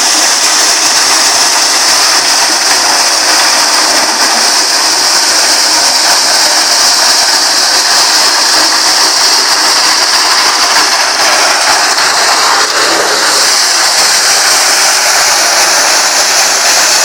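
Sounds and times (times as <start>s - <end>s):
maize sheller running with hiss: 0.0s - 17.0s.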